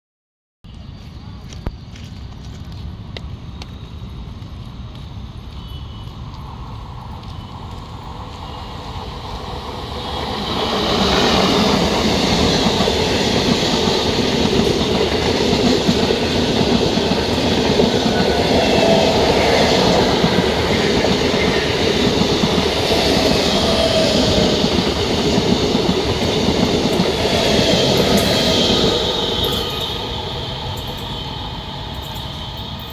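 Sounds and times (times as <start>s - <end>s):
train wheels rushing on rails: 0.7s - 32.9s.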